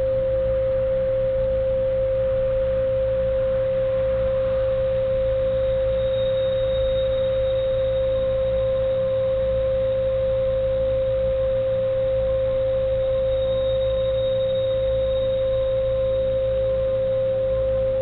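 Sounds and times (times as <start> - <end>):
faint low hum: 0.0 - 18.0
steady pure tone: 0.0 - 18.0.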